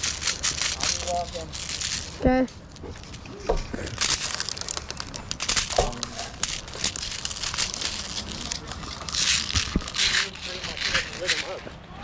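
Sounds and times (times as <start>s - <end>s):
small clicks and rattles: 0.0s - 11.6s
glove and gear rustling: 0.0s - 11.8s.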